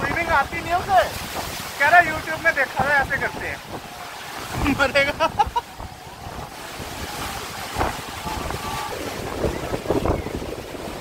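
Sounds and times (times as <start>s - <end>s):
waves breaking over rocks: 0.0s - 11.0s
wind on microphone: 0.0s - 11.0s.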